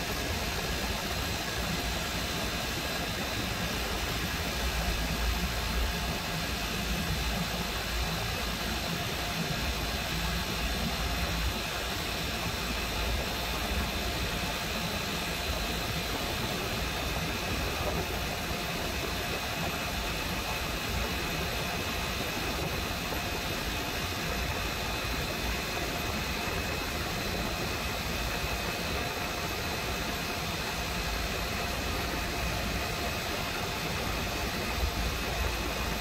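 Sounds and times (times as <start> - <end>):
compressor humming: 0.0 - 36.0.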